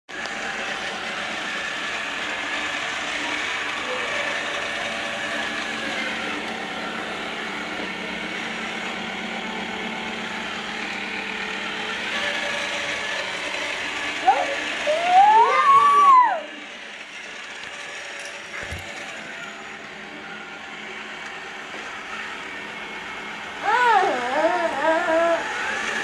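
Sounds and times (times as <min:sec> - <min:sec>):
robot vacuum cleaner whirring: 0:00.1 - 0:26.0.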